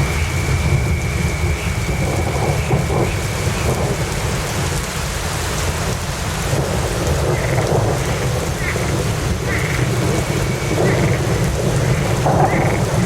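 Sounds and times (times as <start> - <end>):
heavy rain: 0.0 - 13.0
low rumble of thunder: 0.0 - 13.0.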